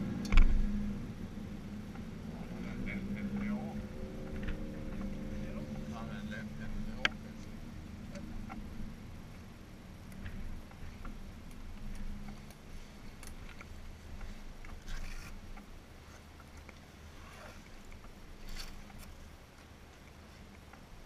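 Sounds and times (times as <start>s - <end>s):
riding gear rustling: 0.3s - 21.0s.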